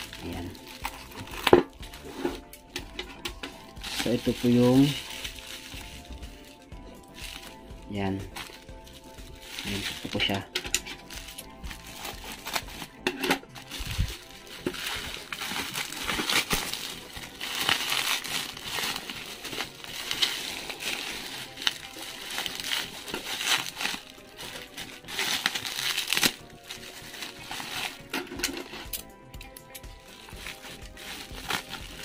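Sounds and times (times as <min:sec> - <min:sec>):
bubble wrap crinkling: 0:00.0 - 0:32.0.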